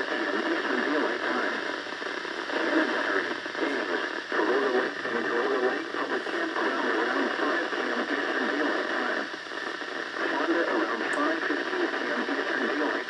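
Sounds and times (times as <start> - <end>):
automated voice speaking: 0.0 - 1.8, 2.5 - 9.3, 10.2 - 13.0
radio static hiss: 0.0 - 13.0.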